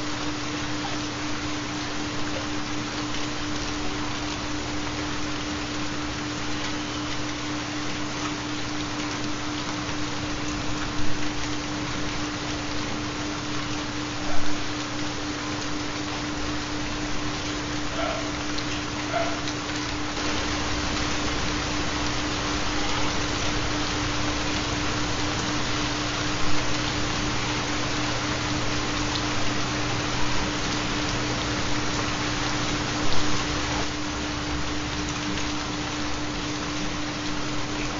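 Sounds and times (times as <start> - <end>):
constant low hum tone: 0.0 - 37.9
rain: 0.0 - 37.9.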